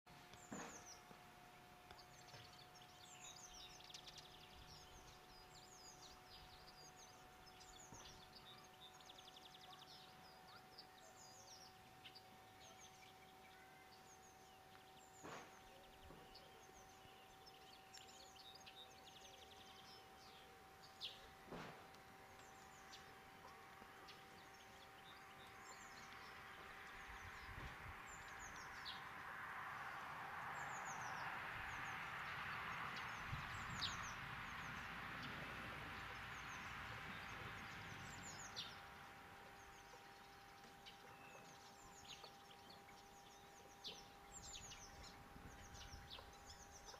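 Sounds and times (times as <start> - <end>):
songbirds chirping: 0.1 - 46.9
steady low hum: 0.1 - 46.9.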